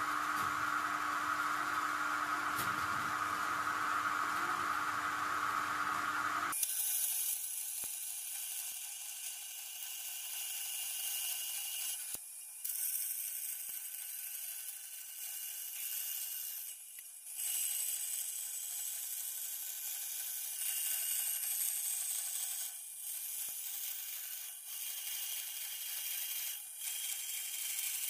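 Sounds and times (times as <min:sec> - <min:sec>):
band saw cutting metal: 0:02.1 - 0:28.0.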